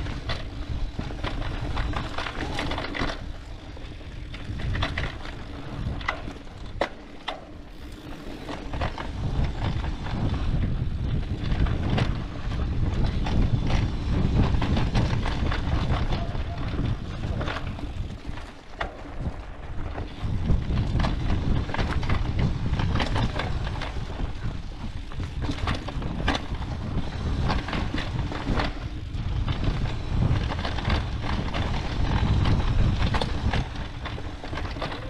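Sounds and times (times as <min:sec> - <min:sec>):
bike clattering over bumps: 0:00.0 - 0:35.0
wind rumble on microphone: 0:00.0 - 0:35.0.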